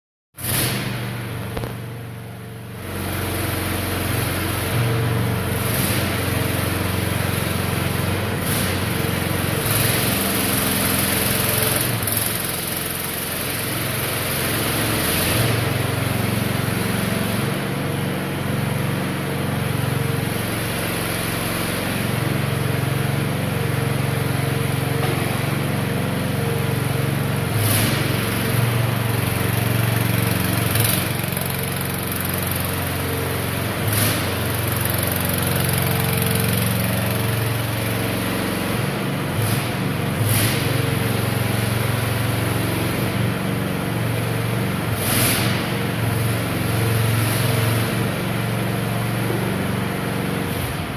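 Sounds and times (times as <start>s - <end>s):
small engine running: 0.4s - 50.9s.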